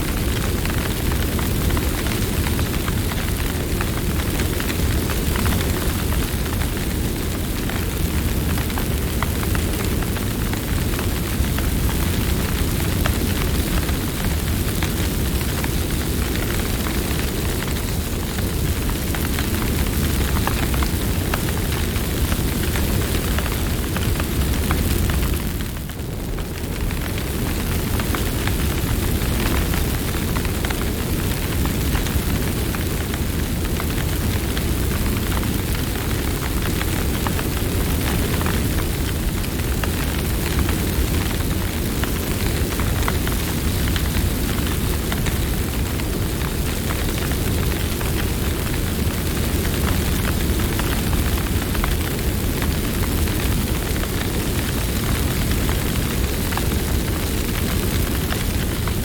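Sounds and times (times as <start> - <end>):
campfire flames rumbling: 0.0 - 59.0
wood crackling and popping: 0.0 - 59.0.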